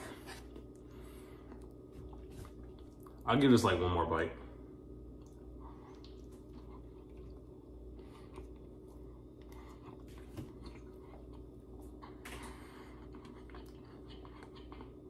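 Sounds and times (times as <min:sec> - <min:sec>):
faint chewing: 0:00.0 - 0:03.3, 0:05.2 - 0:15.0
steady low hum: 0:00.0 - 0:15.0.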